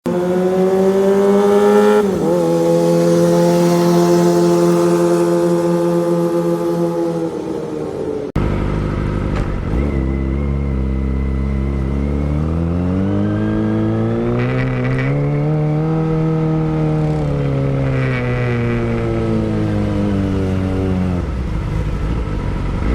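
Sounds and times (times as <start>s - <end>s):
motorcycle engine revving: 0.1s - 22.9s.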